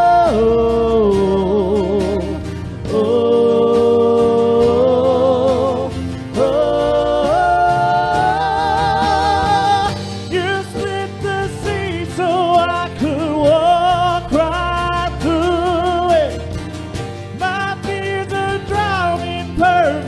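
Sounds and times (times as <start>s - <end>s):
person singing with vibrato: 0.0s - 16.5s, 17.3s - 20.0s
worship band playing slow song: 0.0s - 20.0s.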